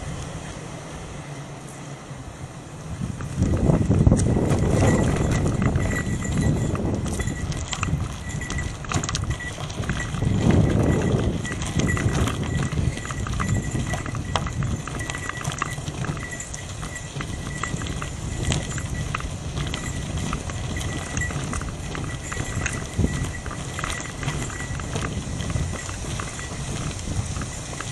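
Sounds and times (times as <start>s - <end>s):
bicycle tyres on gravel: 2.8s - 27.9s
wind on microphone: 2.9s - 27.9s
bicycle frame rattling: 3.1s - 27.9s.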